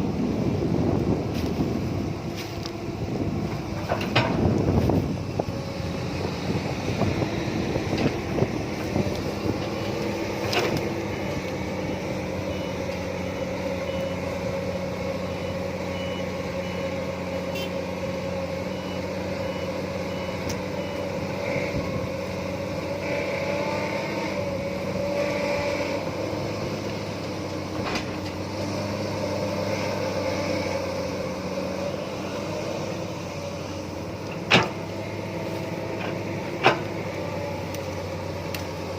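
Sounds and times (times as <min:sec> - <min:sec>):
heavy machinery running: 0:00.0 - 0:38.9.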